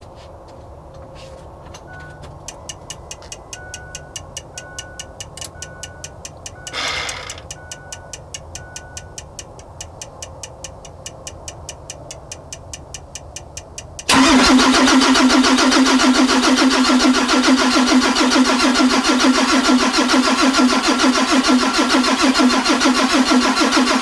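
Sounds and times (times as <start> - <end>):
rapid electronic ticking: 2.4 - 24.0.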